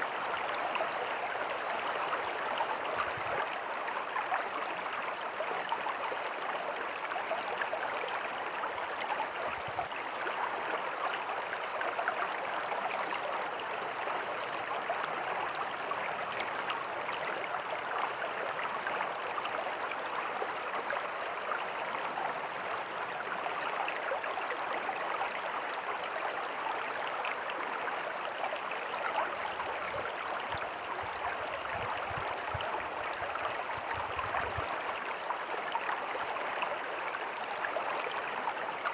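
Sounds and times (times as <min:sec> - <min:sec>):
creek babbling over rocks: 0:00.0 - 0:38.9.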